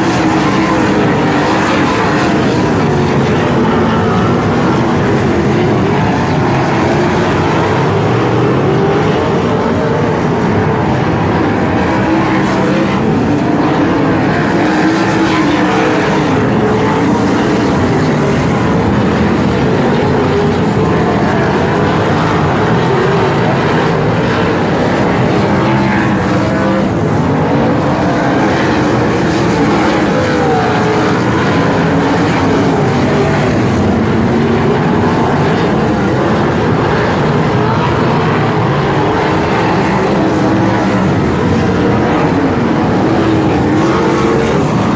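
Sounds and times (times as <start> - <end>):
racing car engines: 0.0 - 44.9.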